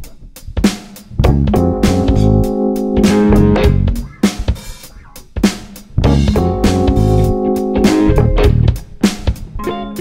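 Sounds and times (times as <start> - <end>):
guitar-led music with bass and drums: 0.0 - 10.0.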